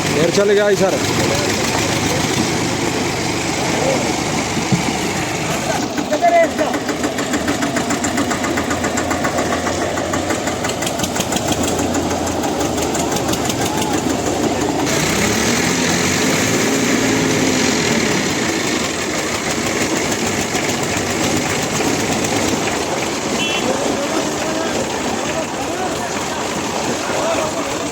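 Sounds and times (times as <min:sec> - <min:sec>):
tractor diesel engines under load: 0:00.0 - 0:27.9.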